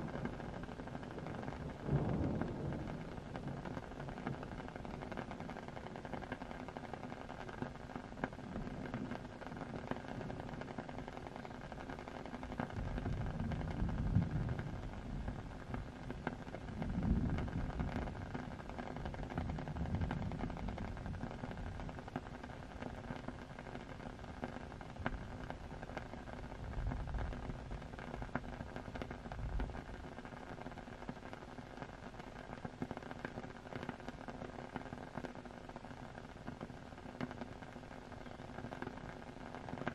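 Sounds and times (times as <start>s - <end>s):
faint crackles: 0.0s - 39.9s
rain hiss: 0.0s - 39.9s.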